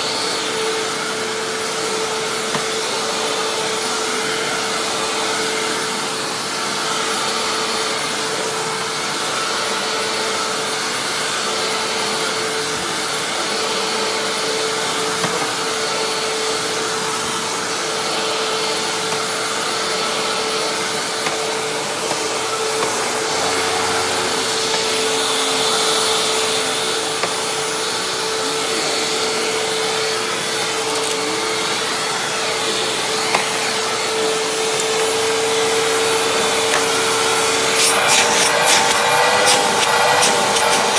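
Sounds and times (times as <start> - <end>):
vacuum cleaner motor whine: 0.0 - 40.9.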